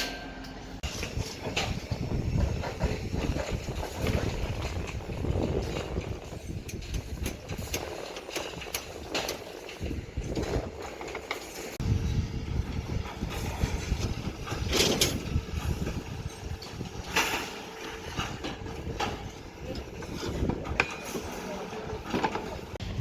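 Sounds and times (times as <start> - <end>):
knocks and clanks: 0.0 - 11.8, 12.7 - 22.8
excavator engine rumbling: 0.0 - 23.0.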